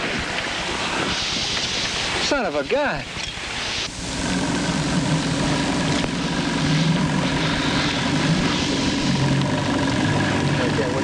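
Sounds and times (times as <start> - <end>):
engine droning hum: 0.0 - 11.0.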